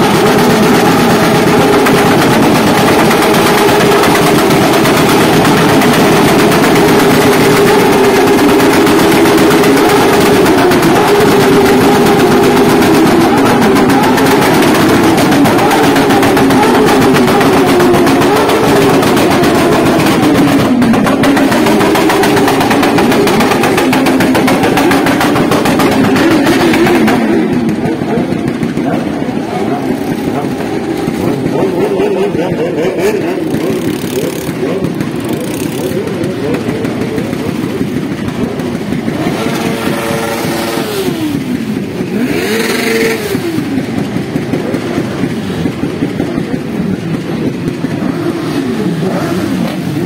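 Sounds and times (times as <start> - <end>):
motorcycle engines idling loudly: 0.0 - 50.0.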